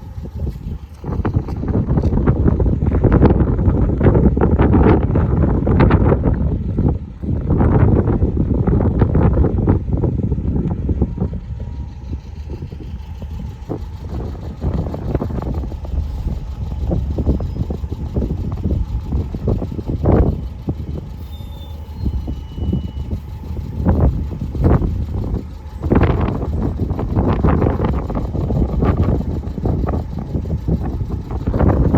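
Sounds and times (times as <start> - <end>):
vehicles passing rumble: 0.0 - 31.9
wind buffeting microphone: 0.0 - 31.9.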